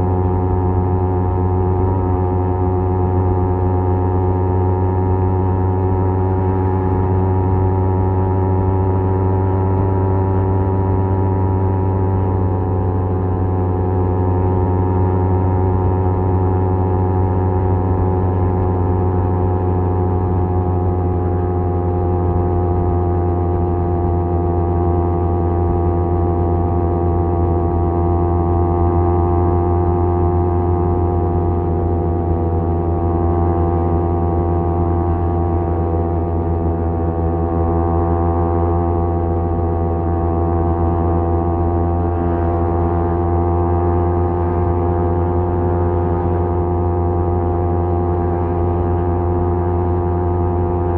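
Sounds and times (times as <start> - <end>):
motorcycle exhaust droning: 0.0 - 50.9.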